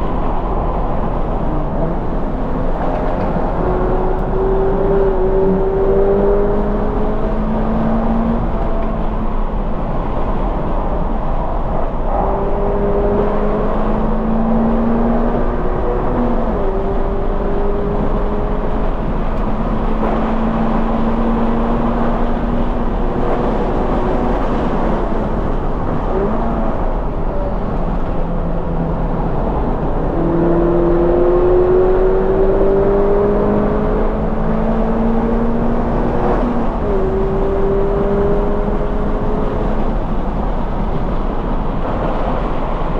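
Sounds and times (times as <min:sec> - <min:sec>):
car engine at full throttle: 0:00.0 - 0:42.9.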